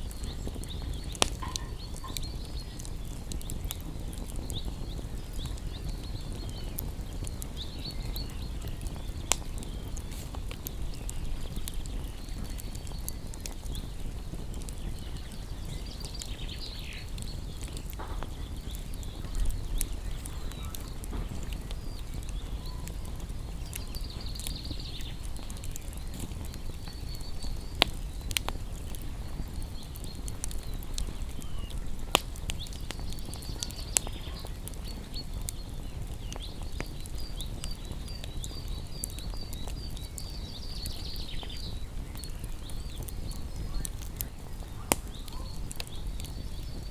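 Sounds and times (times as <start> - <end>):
small birds chirping: 0.0 - 46.9
wood fire crackling and popping: 0.0 - 46.9.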